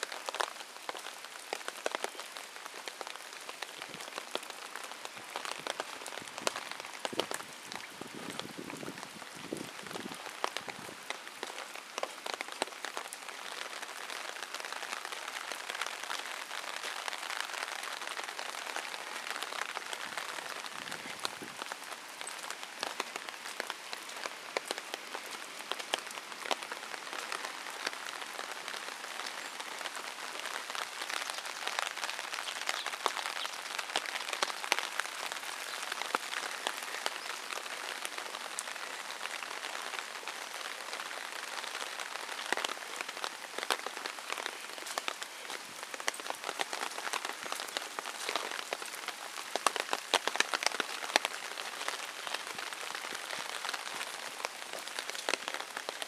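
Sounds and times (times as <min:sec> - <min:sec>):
raindrops ticking close by: 0:00.0 - 0:56.0
steady rain hiss: 0:00.0 - 0:56.0.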